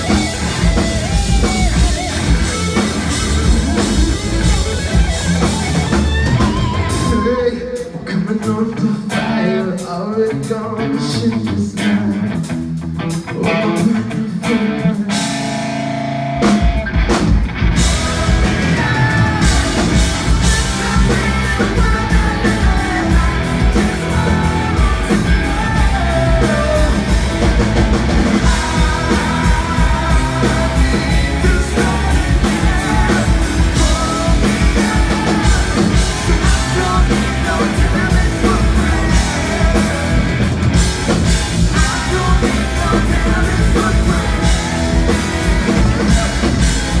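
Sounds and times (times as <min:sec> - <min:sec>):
person singing: 0:00.0 - 0:12.4, 0:17.8 - 0:40.6, 0:41.3 - 0:47.0
live band playing: 0:00.0 - 0:47.0.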